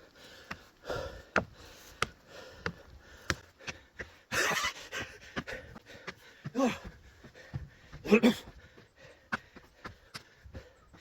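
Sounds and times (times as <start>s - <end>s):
footsteps climbing steps: 0.0s - 11.0s
man breathing heavily: 0.0s - 11.0s.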